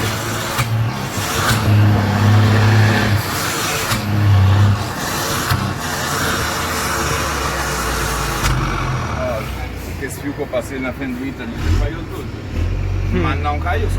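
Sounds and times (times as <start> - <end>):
diesel truck engine under load: 0.0 - 13.9.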